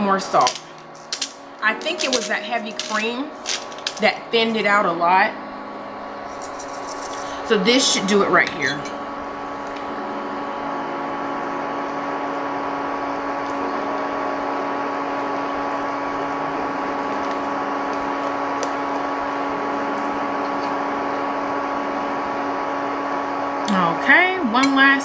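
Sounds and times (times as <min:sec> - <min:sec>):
appliance hum: 0:00.0 - 0:25.0.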